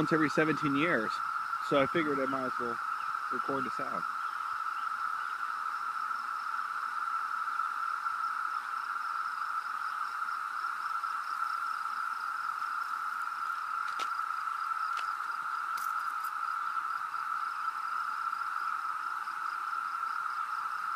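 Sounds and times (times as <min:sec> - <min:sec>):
cicadas droning: 0:00.0 - 0:20.9.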